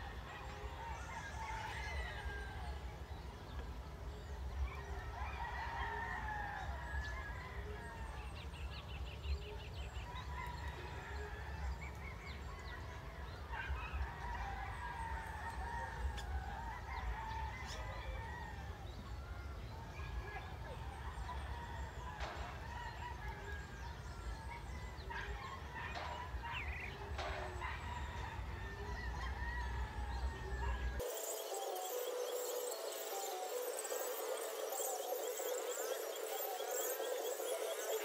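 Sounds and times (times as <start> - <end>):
birds calling and chirping: 0.0 - 38.0.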